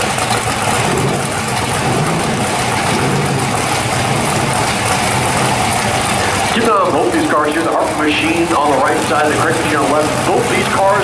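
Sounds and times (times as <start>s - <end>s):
vee eight engines idling loudly: 0.0s - 11.0s.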